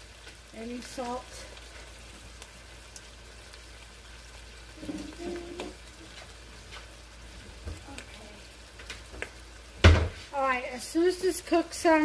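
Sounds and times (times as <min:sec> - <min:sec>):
egg sizzling in frying pan: 0:00.0 - 0:12.0.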